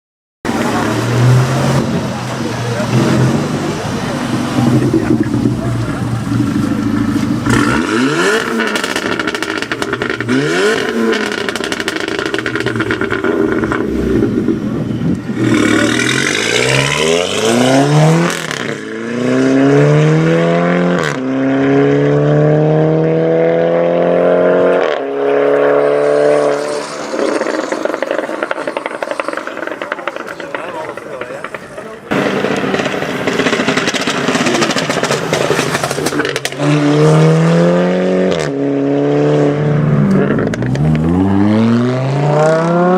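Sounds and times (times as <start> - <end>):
exhaust popping and crackling: 0.5 - 19.2, 25.5 - 38.6, 39.6 - 42.9
car accelerating through upshifts: 0.5 - 30.2, 32.8 - 42.9
car engine revving: 0.5 - 42.9.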